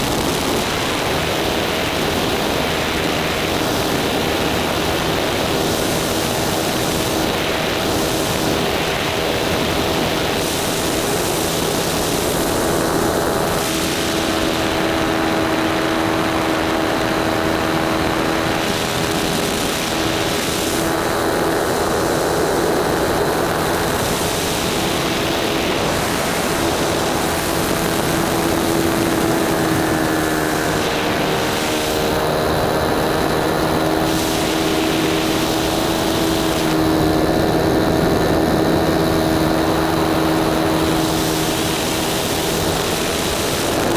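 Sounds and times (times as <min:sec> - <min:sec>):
model plane engine running: 0:00.0 - 0:43.9
wind and propeller rush: 0:00.0 - 0:43.9.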